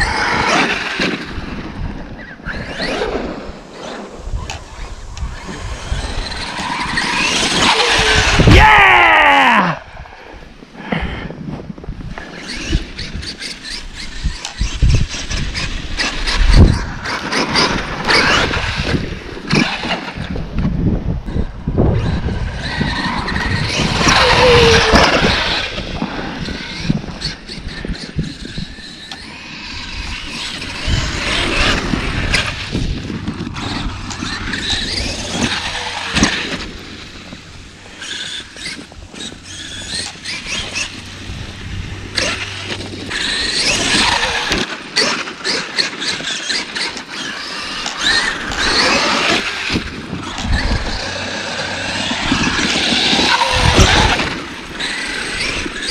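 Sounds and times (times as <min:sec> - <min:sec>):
toy truck motor whining: 0:00.0 - 0:08.8, 0:12.2 - 0:20.4, 0:21.3 - 0:55.9.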